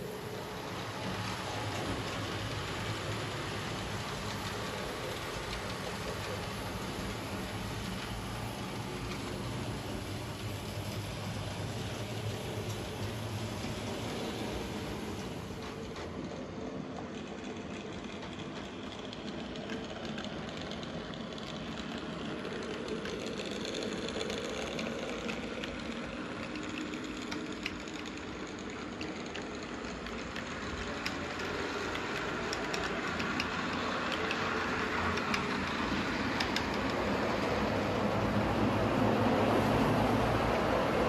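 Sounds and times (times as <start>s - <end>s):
model train rolling on track: 0.0s - 41.0s
small clicks of train wheels: 0.0s - 41.0s.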